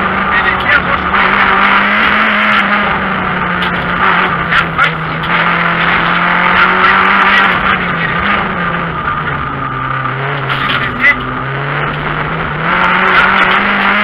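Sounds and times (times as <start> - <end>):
car engine running hard: 0.0 - 14.0
road and wind noise: 0.0 - 14.0.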